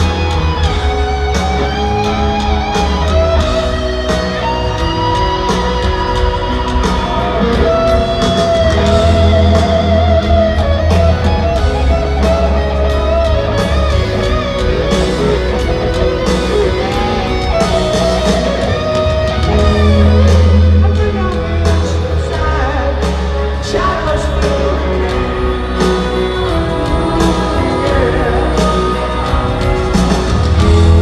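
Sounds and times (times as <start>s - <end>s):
electric guitar lead: 0.0s - 31.0s
live rock band: 0.0s - 31.0s.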